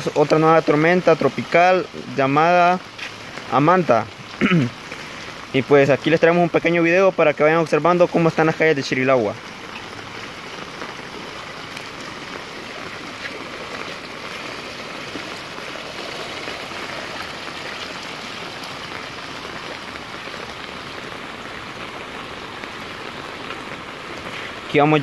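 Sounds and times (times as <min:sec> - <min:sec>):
rain on a paved street: 0:00.0 - 0:25.0
runoff water streaming: 0:00.0 - 0:25.0.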